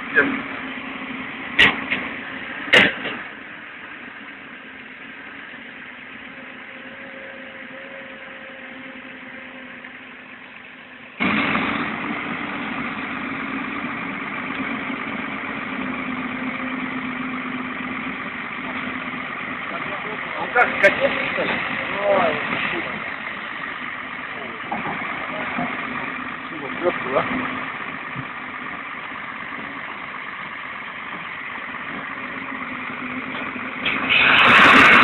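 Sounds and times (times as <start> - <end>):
excavator diesel engines running: 0.0 - 35.0.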